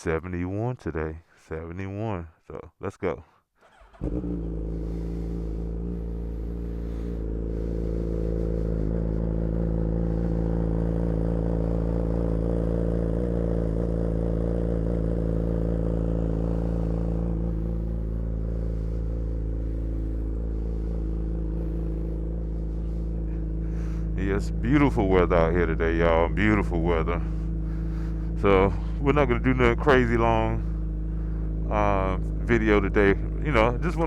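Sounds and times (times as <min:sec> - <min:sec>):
motorcycle engine idling: 0:03.6 - 0:34.0.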